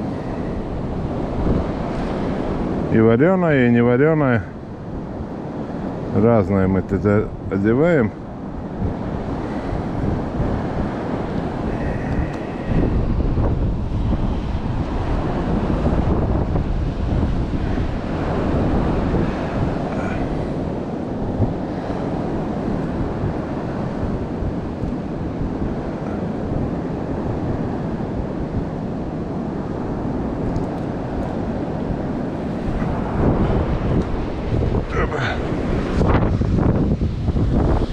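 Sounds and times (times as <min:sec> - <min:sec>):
sea surf: 0:00.0 - 0:37.9
wind buffeting microphone: 0:00.0 - 0:37.9.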